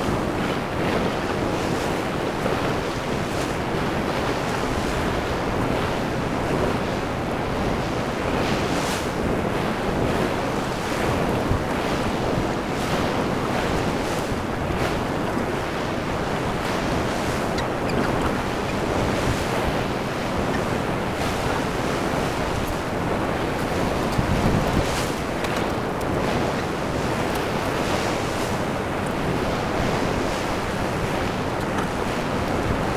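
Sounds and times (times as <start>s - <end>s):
ocean surf washing up a beach: 0.0s - 32.9s
wind noise on microphone: 0.0s - 32.9s.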